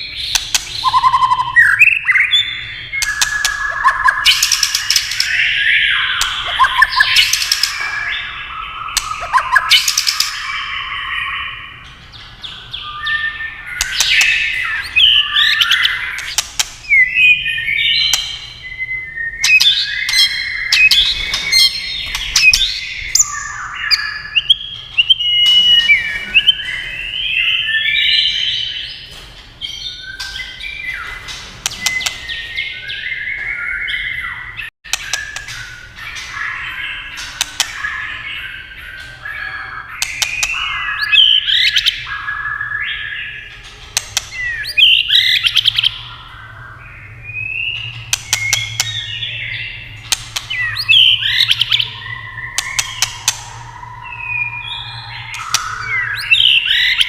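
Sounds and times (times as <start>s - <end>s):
bird singing whistled phrases: 0.0s - 11.9s, 12.5s - 29.0s, 29.6s - 43.6s, 44.3s - 57.0s
sharp clicking bird calls: 0.0s - 57.0s.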